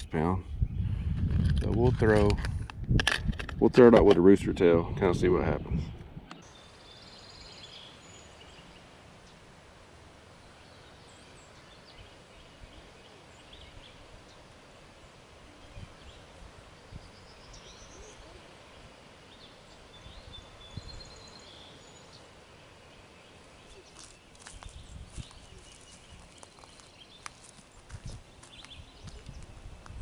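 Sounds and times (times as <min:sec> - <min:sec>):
distant songbirds calling: 0:00.0 - 0:01.9, 0:03.8 - 0:30.0.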